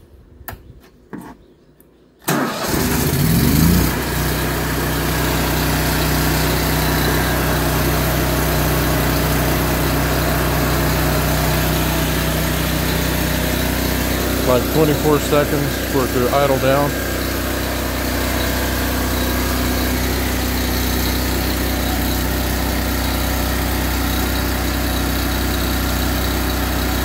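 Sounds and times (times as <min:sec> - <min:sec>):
generator engine starting: 0:02.2 - 0:27.0.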